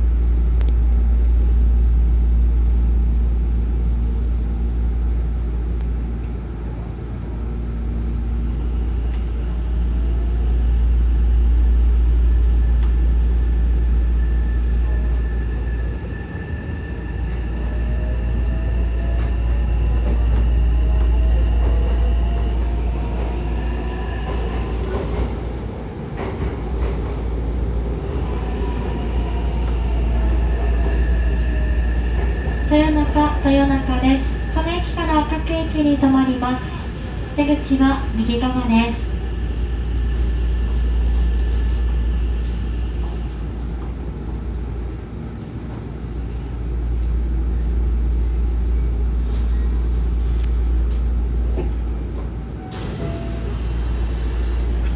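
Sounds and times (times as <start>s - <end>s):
train wheels rumbling on track: 0.0s - 54.9s.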